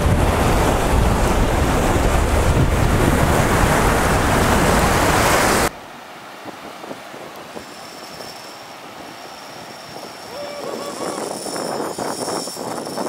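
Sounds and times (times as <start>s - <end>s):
wind rushing on microphone: 0.0s - 5.7s, 6.3s - 13.0s
surf breaking waves: 0.0s - 13.0s.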